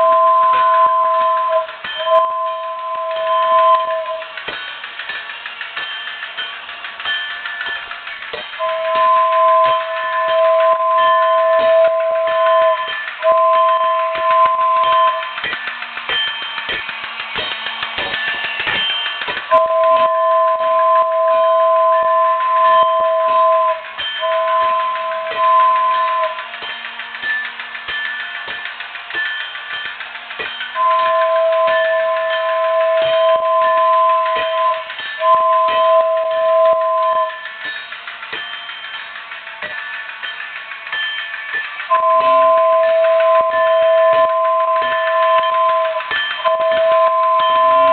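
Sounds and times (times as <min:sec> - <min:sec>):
toy train two-note whistle: 0:00.0 - 0:05.2, 0:08.5 - 0:47.9
rapid clicking chuffer: 0:00.0 - 0:47.9
toy train bell ringing: 0:00.0 - 0:47.9.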